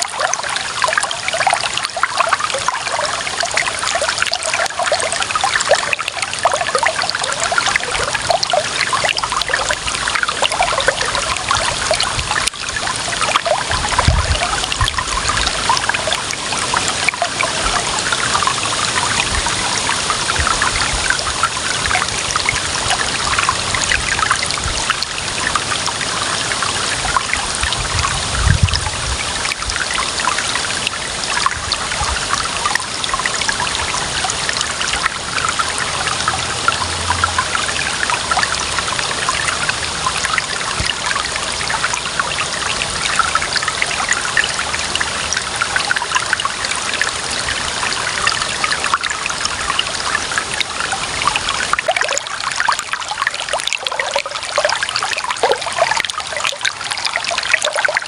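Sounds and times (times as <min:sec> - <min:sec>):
running water trickling: 0:00.0 - 0:58.0.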